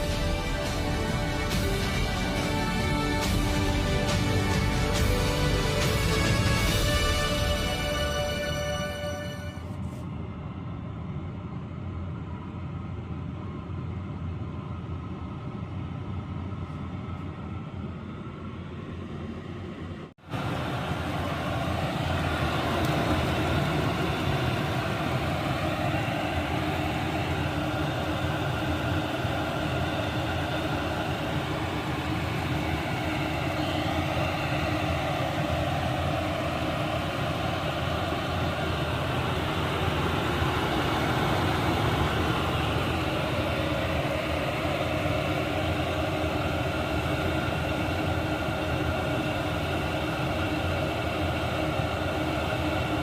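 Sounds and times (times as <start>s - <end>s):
diesel heater running: 0.0s - 53.0s.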